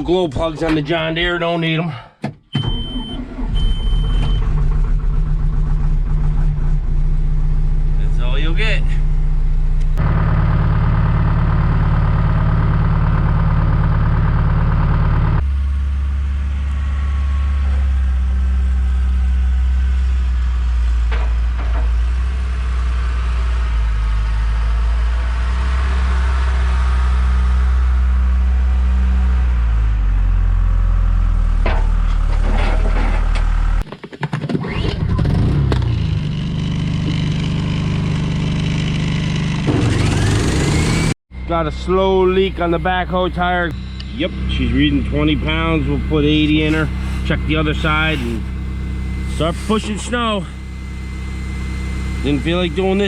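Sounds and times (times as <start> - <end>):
diesel engine running: 2.6 - 33.8, 34.7 - 53.0.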